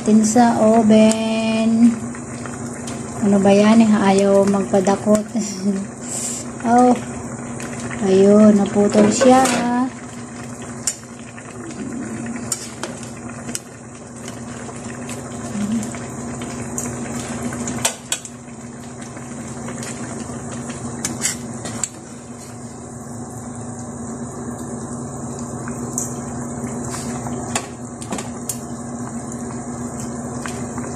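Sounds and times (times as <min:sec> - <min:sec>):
steady low hum: 0:00.0 - 0:30.9
stew bubbling: 0:00.9 - 0:30.9.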